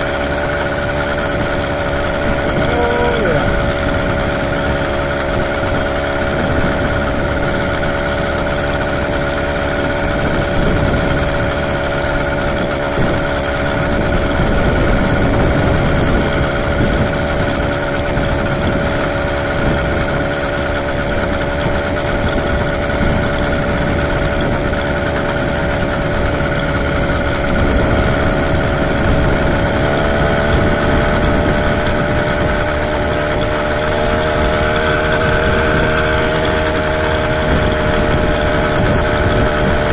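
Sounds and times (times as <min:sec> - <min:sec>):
two-stroke bicycle engine running: 0:00.0 - 0:39.9
wind rumble on microphone: 0:00.0 - 0:39.9.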